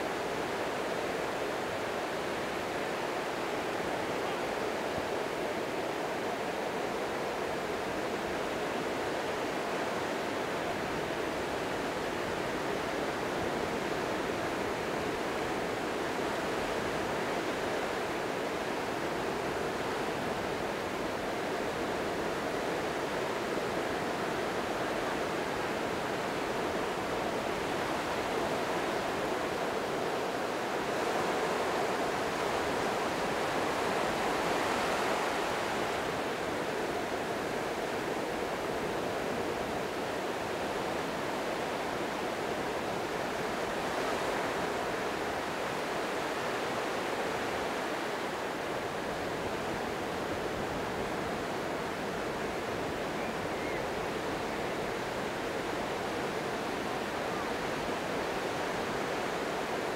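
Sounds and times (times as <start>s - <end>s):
waves washing up a sandy beach: 0.0s - 59.9s.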